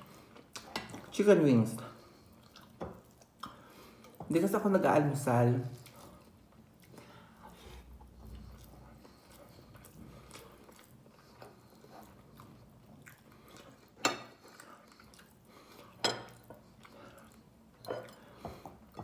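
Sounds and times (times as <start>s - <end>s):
quiet chewing: 0.0s - 1.2s, 1.8s - 4.3s, 5.7s - 19.0s.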